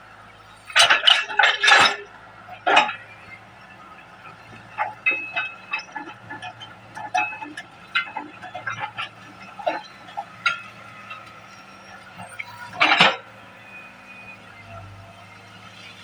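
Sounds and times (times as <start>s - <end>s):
excavator engine hum: 0.0s - 16.0s.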